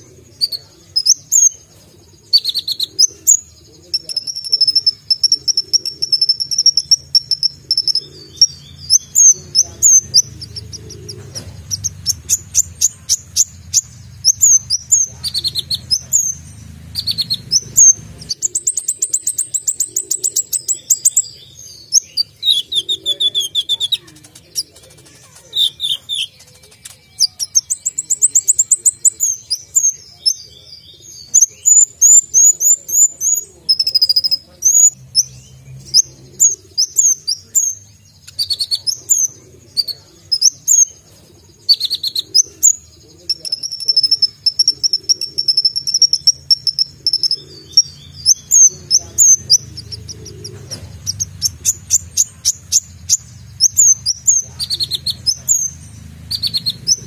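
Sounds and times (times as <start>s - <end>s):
bird chirps and trills: 0.0s - 57.0s.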